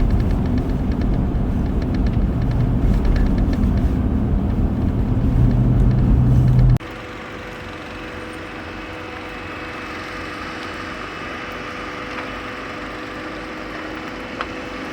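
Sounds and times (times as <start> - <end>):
loud low vehicle rumble: 0.0 - 14.9
vehicle engine running: 0.0 - 14.9.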